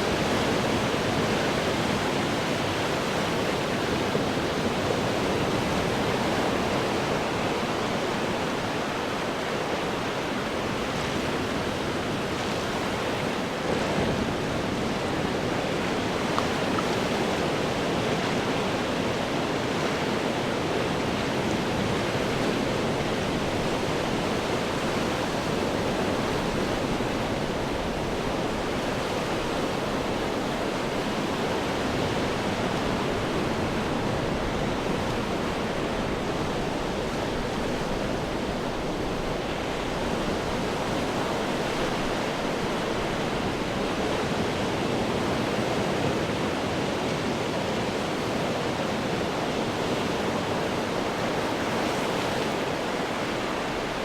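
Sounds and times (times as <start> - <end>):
ocean waves washing over rocks: 0.0 - 54.0.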